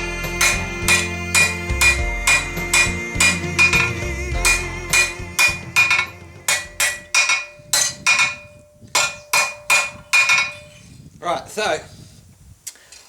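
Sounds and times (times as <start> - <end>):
hammer striking steel on anvil: 0.0 - 10.8.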